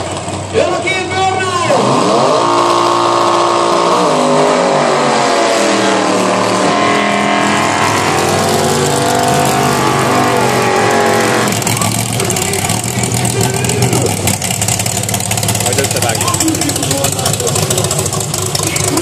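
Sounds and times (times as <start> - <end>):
car engines revving hard: 0.0 - 19.0
tyres spinning in burnouts: 0.0 - 19.0.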